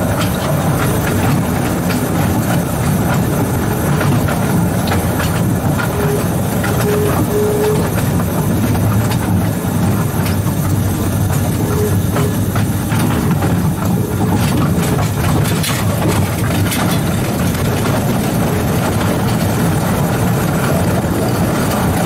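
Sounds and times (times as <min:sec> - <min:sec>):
electric locomotive rumble: 0:00.0 - 0:22.0
rail clicks and knocks: 0:00.0 - 0:22.0.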